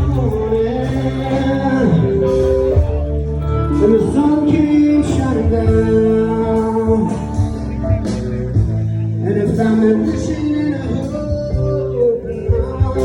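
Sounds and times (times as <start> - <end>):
country music with singer: 0.0 - 13.0.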